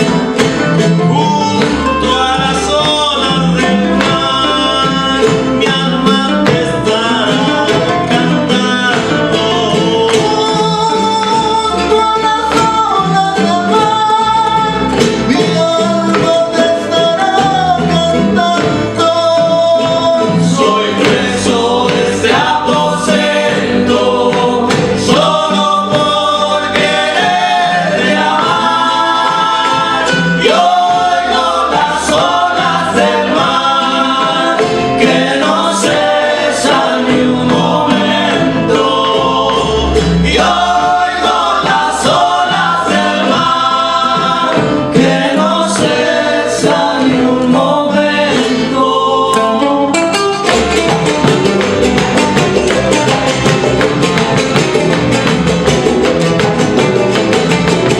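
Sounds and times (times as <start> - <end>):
voices singing together: 0.0 - 55.2
bass: 0.0 - 57.9
percussion: 0.0 - 57.9
plucked requinto: 0.0 - 57.9
strummed jaranas: 0.0 - 57.9.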